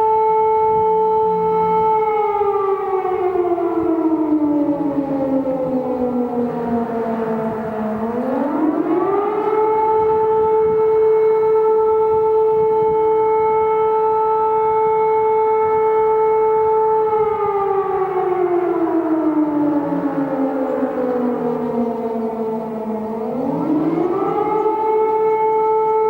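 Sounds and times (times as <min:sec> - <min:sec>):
civil defense siren wailing: 0:00.0 - 0:26.0.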